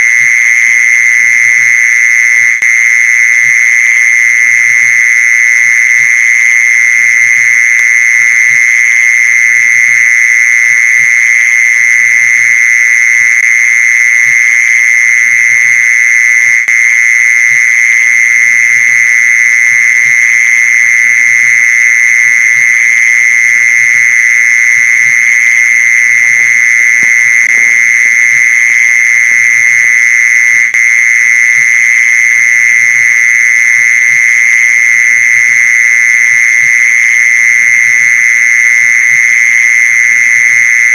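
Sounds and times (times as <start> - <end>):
mole cricket trilling: 0.0 - 40.9.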